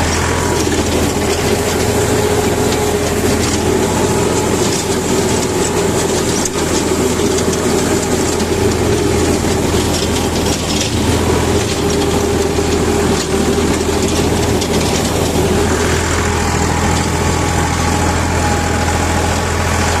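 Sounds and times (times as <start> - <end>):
rotavator blades rattling: 0.0 - 20.0
tractor engine running under load: 0.0 - 20.0.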